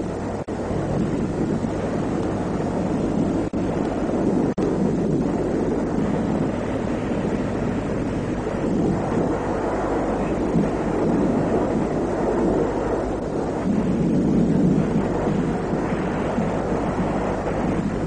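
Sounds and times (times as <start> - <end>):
steady low rumbling: 0.0 - 18.0.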